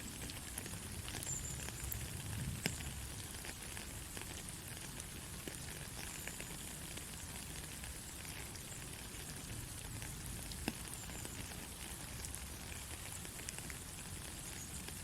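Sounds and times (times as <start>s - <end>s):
raindrops ticking: 0.0s - 15.0s
soft rain falling: 0.0s - 15.0s.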